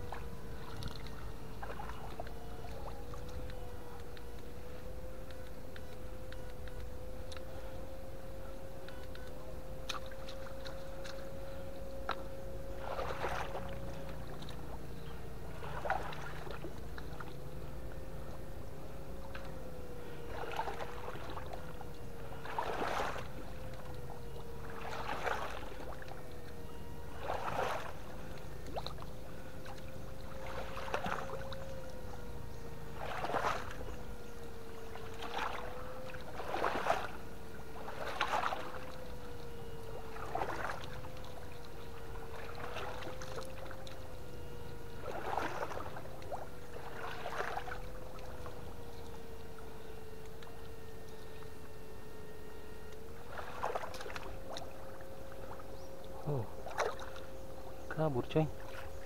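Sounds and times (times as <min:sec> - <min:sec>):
steady electric whine: 0:00.0 - 0:59.0
water splashing: 0:00.0 - 0:59.0.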